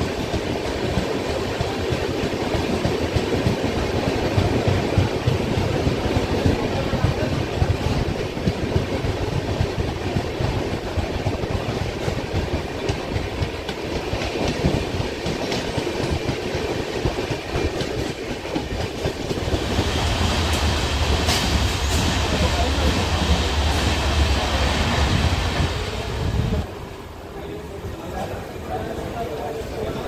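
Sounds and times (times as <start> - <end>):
train wheels running on rails: 0.0 - 30.0.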